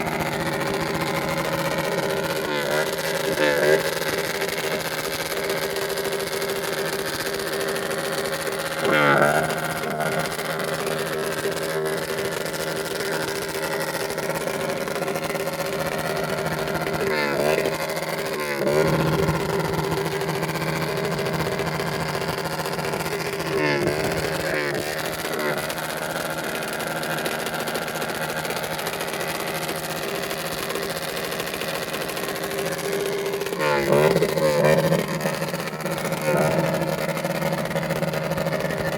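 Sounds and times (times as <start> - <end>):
small motorcycle engine idling: 0.0 - 38.9.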